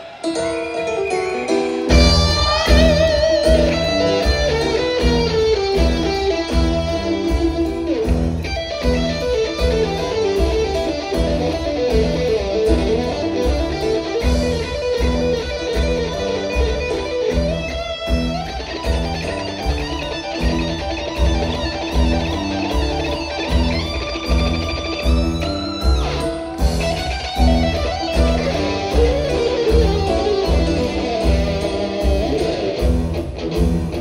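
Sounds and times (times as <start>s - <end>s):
electric guitar: 0.0s - 34.0s
live rock band playing: 0.0s - 34.0s.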